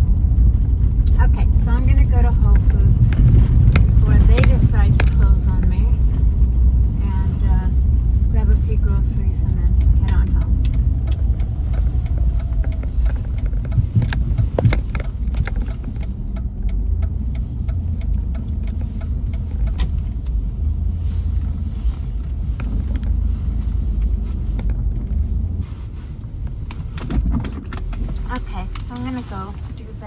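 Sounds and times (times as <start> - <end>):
light clicks and rattles: 0.0 - 29.9
car engine and road rumble: 0.0 - 30.0.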